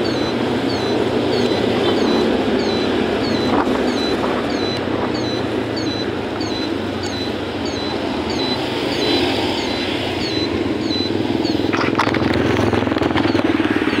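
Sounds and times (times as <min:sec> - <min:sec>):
faint high chirp: 0:00.0 - 0:11.8, 0:13.2 - 0:14.0
motorcycle engine running: 0:00.0 - 0:14.0
wind and road noise: 0:00.0 - 0:14.0.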